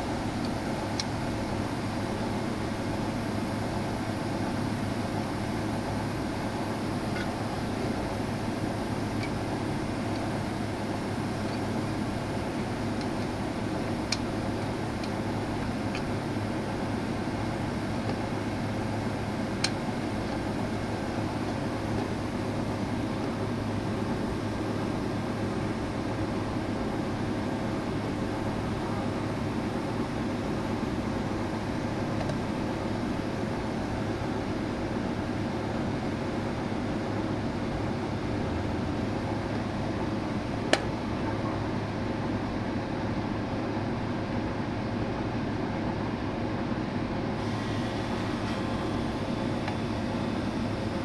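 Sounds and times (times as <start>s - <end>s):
compressor humming: 0.0s - 51.0s
fan rushing: 0.0s - 51.0s.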